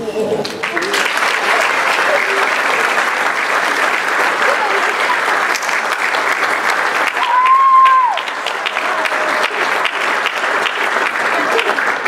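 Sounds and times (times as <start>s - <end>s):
audience applauding: 0.3s - 12.0s.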